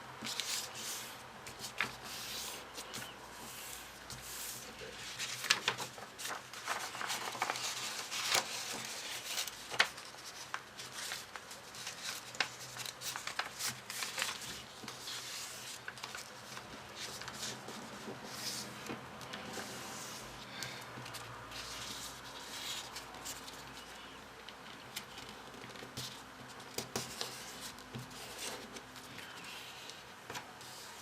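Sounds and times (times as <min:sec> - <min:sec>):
paper rustling and crackling: 0:00.2 - 0:31.0.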